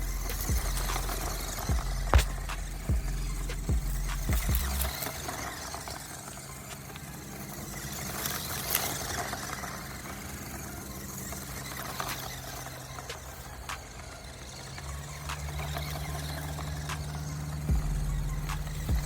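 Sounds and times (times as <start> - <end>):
rc car electric motor hum: 0.0 - 19.0.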